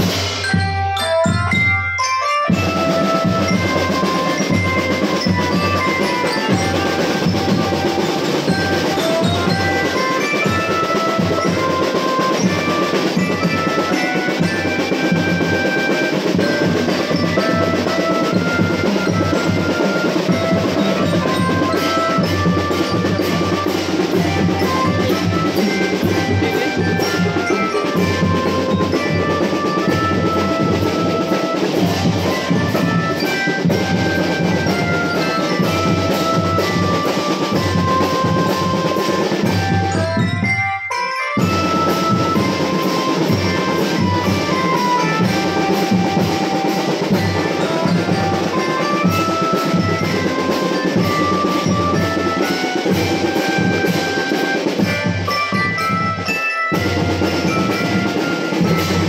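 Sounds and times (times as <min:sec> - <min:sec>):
marching snare and bass drums: 0:00.0 - 0:01.7, 0:02.5 - 0:40.6, 0:41.4 - 0:59.0
glockenspiel melody: 0:00.0 - 0:59.0.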